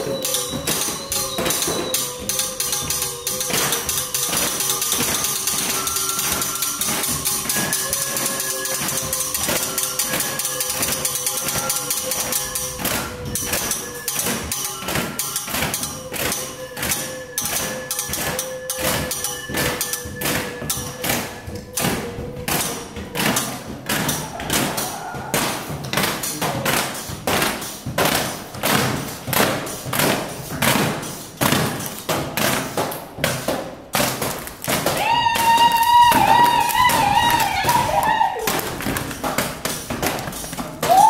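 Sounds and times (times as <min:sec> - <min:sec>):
hands and bottle tapping percussion: 0:00.0 - 0:41.0.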